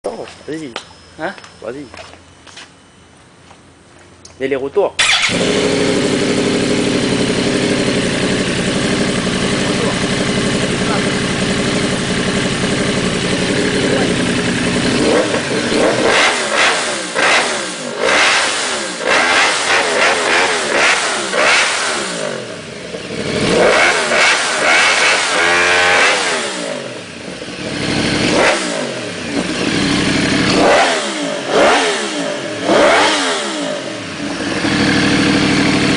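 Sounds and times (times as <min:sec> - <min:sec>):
motorcycle engine revving: 0:05.0 - 0:35.9.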